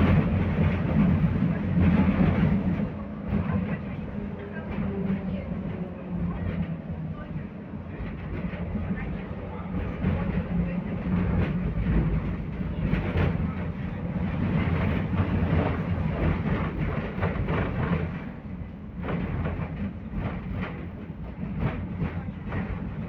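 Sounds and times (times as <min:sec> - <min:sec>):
rattles and clacks over rails: 0:00.0 - 0:23.0
tram wheels rumbling: 0:00.0 - 0:23.0.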